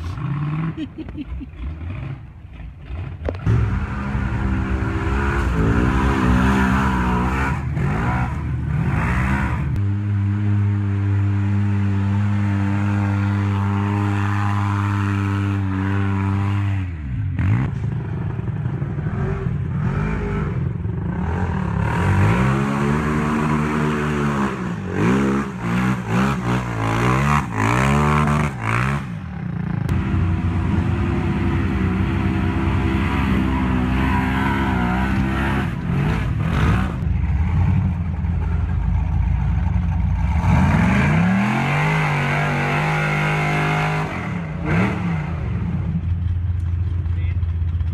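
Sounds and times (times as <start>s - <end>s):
utility vehicle engine revving: 0.0s - 47.0s.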